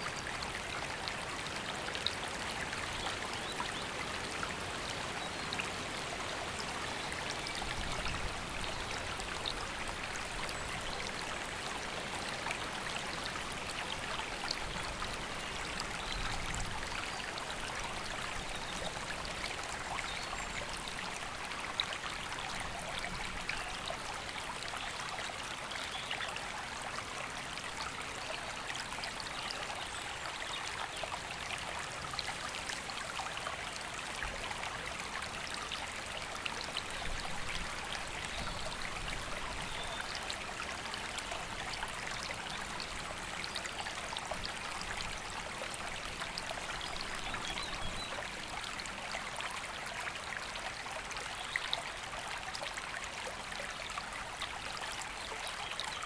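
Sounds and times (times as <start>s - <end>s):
water trickling over stones: 0.0s - 56.0s.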